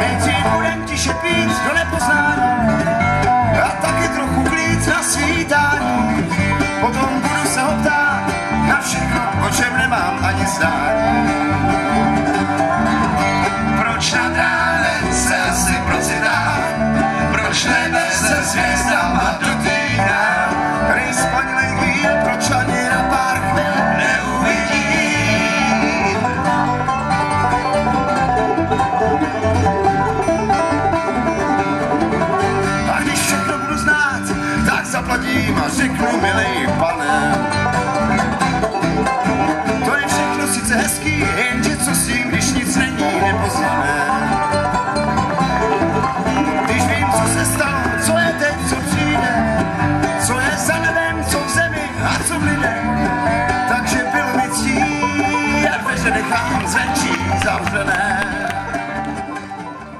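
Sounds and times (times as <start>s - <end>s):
banjo picking: 0.0s - 59.9s
guitar: 0.0s - 59.9s
mandolin picking: 0.0s - 59.9s.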